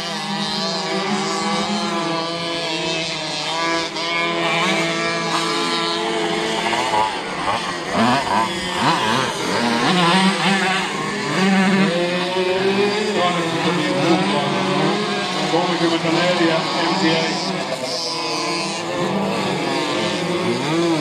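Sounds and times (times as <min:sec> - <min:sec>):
moped engines revving: 0:00.0 - 0:21.0.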